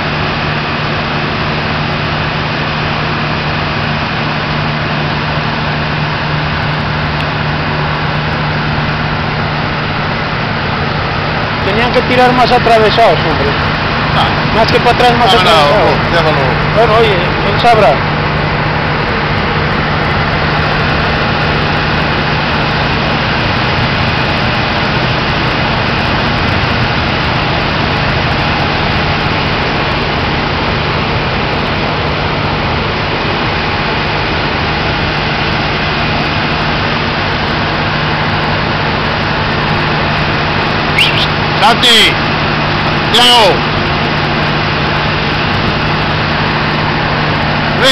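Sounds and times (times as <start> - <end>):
diesel engines droning: 0.0 - 47.9.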